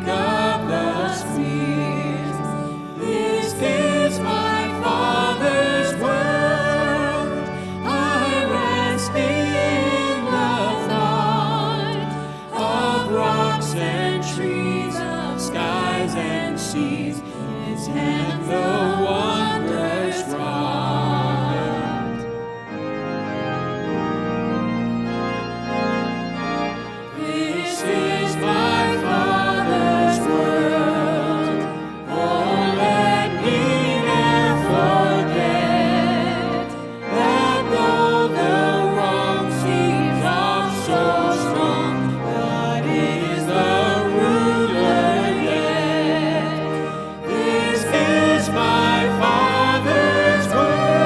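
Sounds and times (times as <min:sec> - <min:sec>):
voices singing worship song: 0:00.0 - 0:22.3, 0:27.0 - 0:51.0
sustained instrumental accompaniment: 0:00.0 - 0:51.0.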